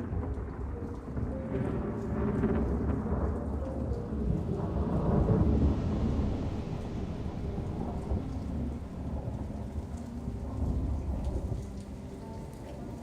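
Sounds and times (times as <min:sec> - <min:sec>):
low rolling thunder: 0:00.0 - 0:13.0
steady rain: 0:00.0 - 0:13.0.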